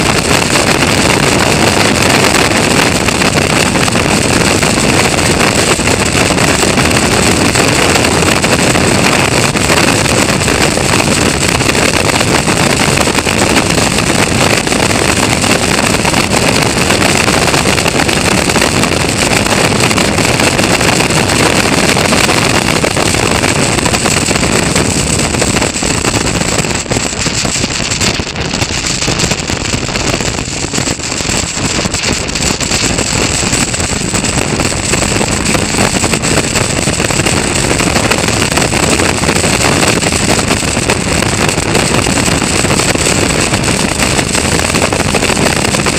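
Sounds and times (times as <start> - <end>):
race car engine running hard: 0.0 - 45.9
wind rushing over microphone: 0.0 - 45.9.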